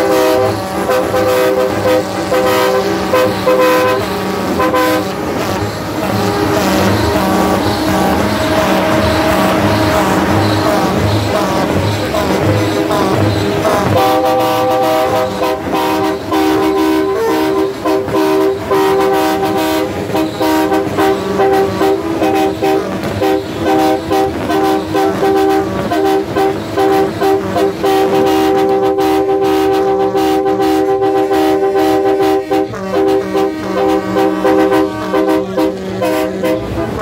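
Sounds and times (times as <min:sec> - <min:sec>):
truck air horns blasting: 0:00.0 - 0:37.0.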